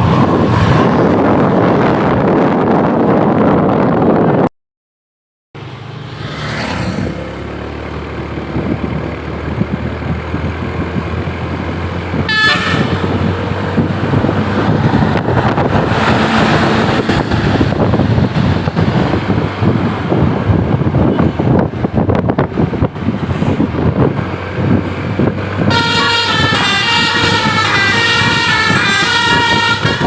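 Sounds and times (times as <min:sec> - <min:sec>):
heavy road traffic: 0:00.0 - 0:04.5, 0:05.6 - 0:30.0.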